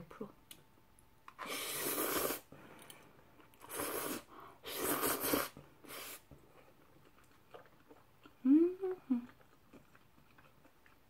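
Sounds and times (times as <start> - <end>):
close-miked eating: 1.0 - 11.0.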